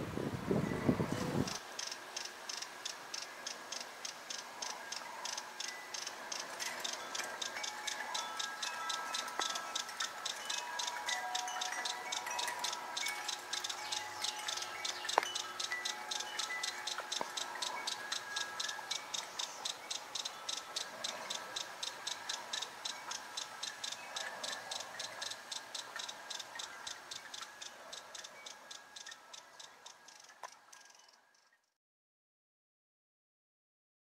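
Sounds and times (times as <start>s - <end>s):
hummingbird high ticking notes: 0.5s - 31.7s.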